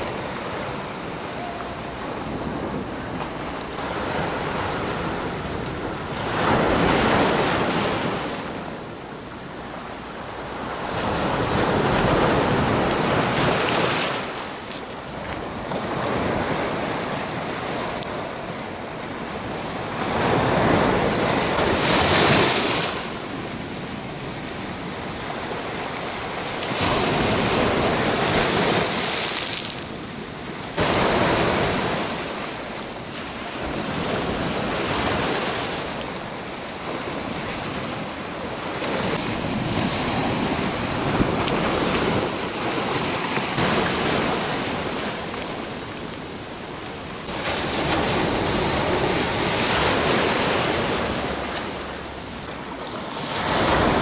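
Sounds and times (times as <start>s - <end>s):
sea waves washing over rocks: 0.0s - 54.0s.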